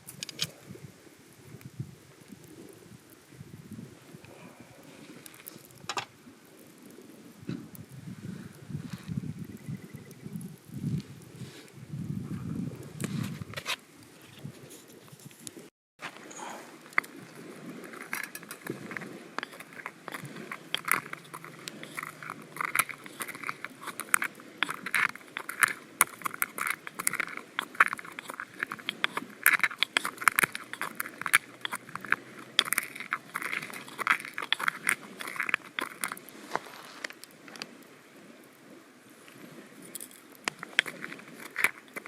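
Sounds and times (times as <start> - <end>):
wood fire crackling and popping: 0.0 - 11.5, 12.7 - 37.8, 39.2 - 42.0.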